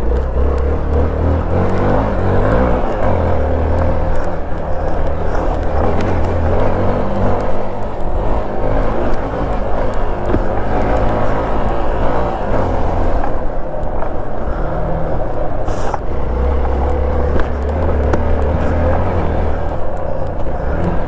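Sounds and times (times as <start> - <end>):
tyre noise: 0.0 - 21.0
wind noise: 0.0 - 21.0.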